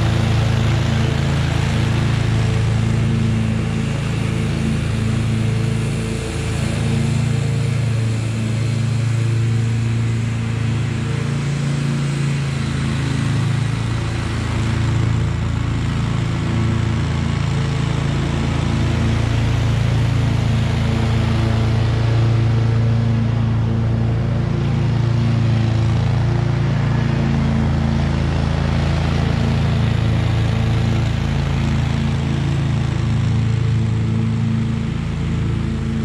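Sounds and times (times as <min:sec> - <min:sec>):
lawn mower running: 0:00.0 - 0:36.0.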